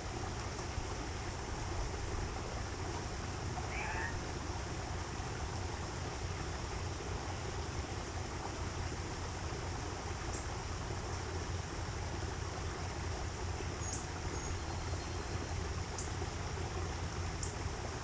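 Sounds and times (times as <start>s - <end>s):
flowing water: 0.0s - 18.0s.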